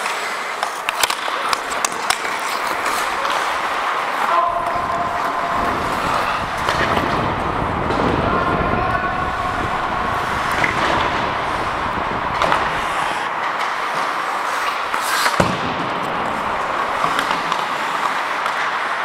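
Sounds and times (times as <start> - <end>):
skate blades scraping ice: 0.0 - 19.0.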